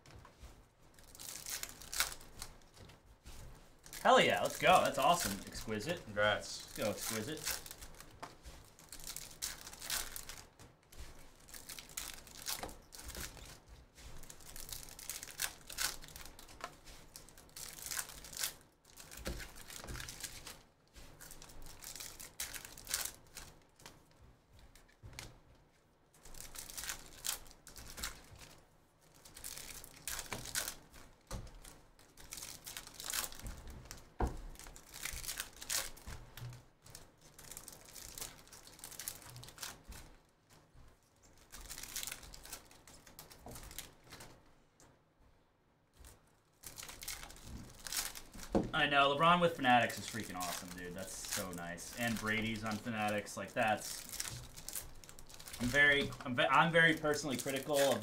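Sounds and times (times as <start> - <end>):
card pack wrappers crinkling: 0.9 - 24.1, 26.2 - 40.2, 41.3 - 44.4, 46.0 - 58.0.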